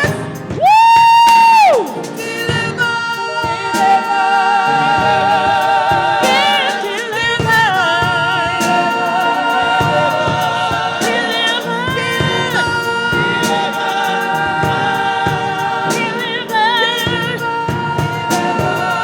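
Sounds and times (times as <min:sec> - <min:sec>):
band with drum hits: 0:00.0 - 0:19.0
gospel singing voices: 0:00.0 - 0:19.0.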